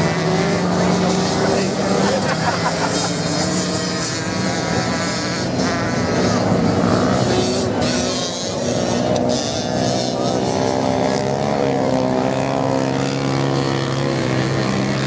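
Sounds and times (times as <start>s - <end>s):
motorcycle engines racing: 0.0s - 15.0s.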